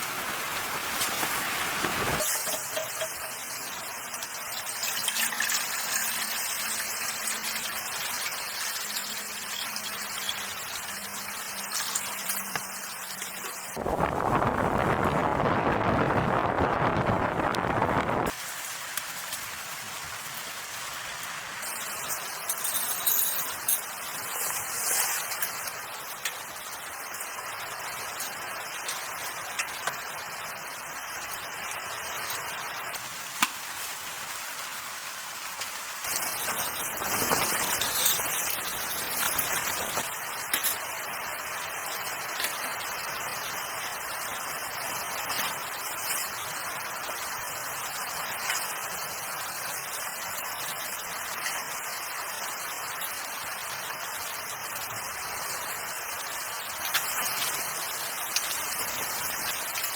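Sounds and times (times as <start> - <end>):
hiss of falling precipitation: 0.0 - 59.9.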